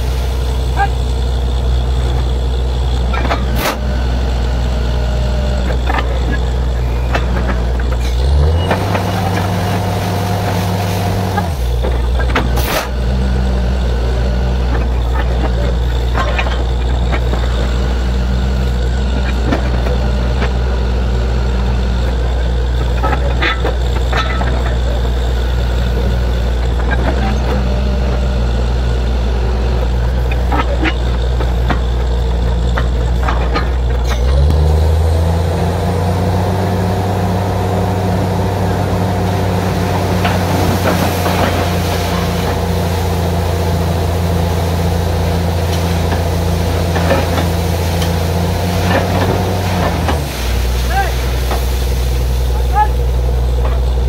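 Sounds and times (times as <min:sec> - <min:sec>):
drilling rig engine revving: 0:00.0 - 0:54.0.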